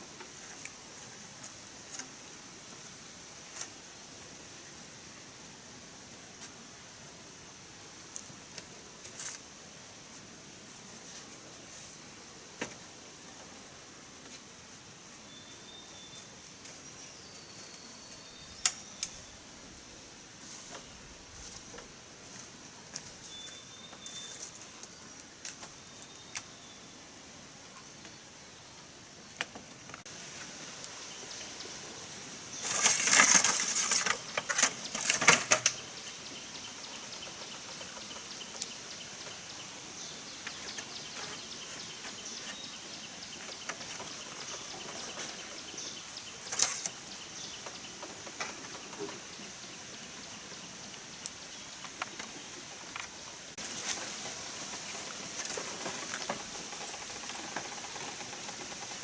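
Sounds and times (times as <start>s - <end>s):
bamboo poles and leaves rustling: 0.0s - 59.0s
steady high hiss: 0.0s - 59.0s.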